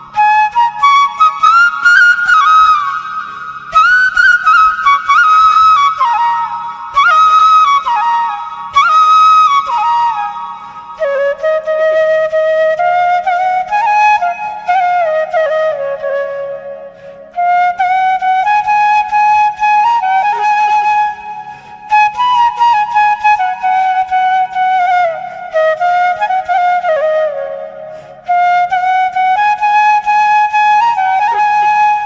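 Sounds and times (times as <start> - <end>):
flute playing slow melody: 0.0 - 32.0.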